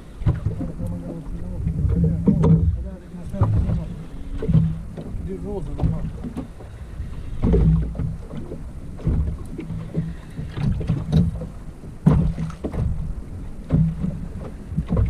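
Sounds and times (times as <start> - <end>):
waves slapping boat hull: 0.0 - 15.0
wind rumble on microphone: 0.0 - 15.0.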